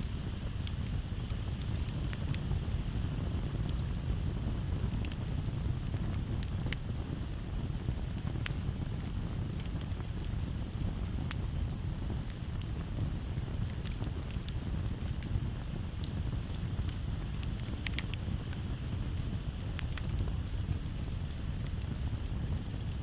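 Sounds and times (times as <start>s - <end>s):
breeze rumble: 0.0s - 23.0s
campfire crackling and popping: 0.0s - 23.0s
crickets trilling: 0.0s - 23.0s.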